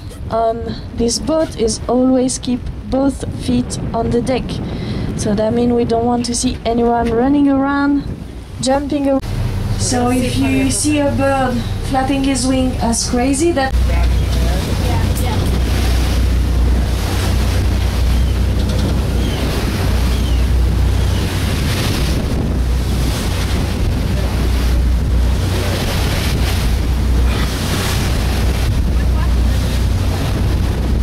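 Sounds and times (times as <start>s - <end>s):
water rushing past boat: 0.0s - 31.0s
wind buffeting microphone: 0.0s - 31.0s
low rumble: 2.6s - 31.0s.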